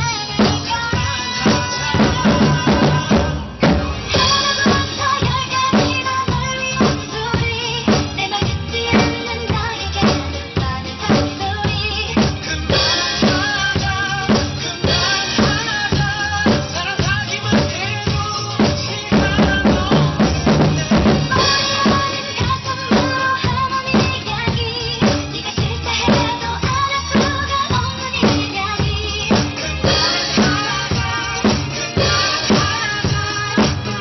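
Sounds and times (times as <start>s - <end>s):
drum kit playing pop groove: 0.0s - 34.0s
recorded pop song: 0.0s - 34.0s.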